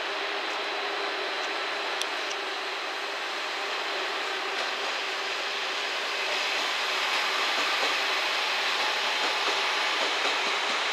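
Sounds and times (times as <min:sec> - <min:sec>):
diesel train passing: 0:00.0 - 0:10.9.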